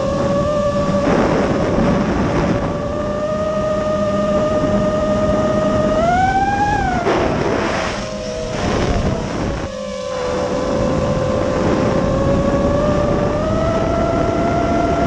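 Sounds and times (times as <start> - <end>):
drone motors whining: 0.0 - 15.0
wind noise: 0.0 - 15.0.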